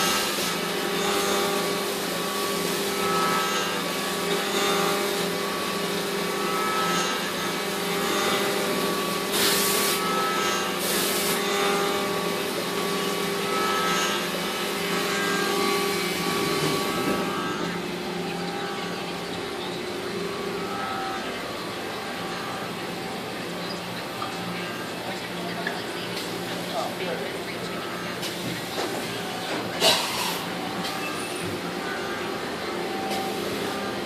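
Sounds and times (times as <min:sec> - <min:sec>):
machine hum with whine: 0:00.0 - 0:34.0.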